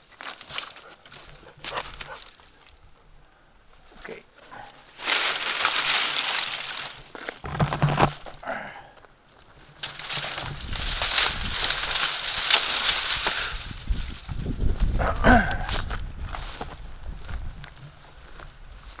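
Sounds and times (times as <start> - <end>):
dry leaves rustling and crackling: 0.0 - 2.9, 3.7 - 8.4, 9.3 - 19.0.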